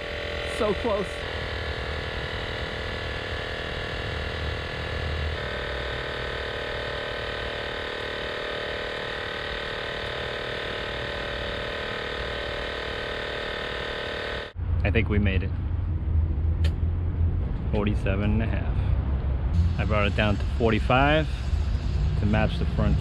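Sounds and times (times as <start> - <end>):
air compressor running: 0.0 - 14.6, 17.4 - 23.0.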